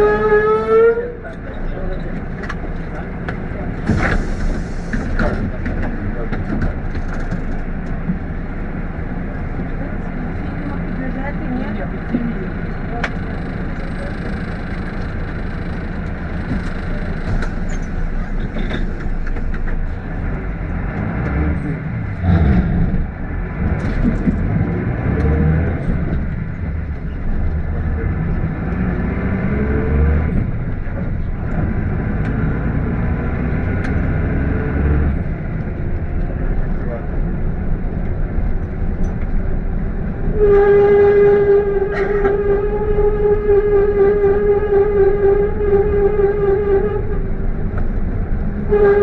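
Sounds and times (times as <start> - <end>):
minibus engine accelerating: 0.0 - 49.0.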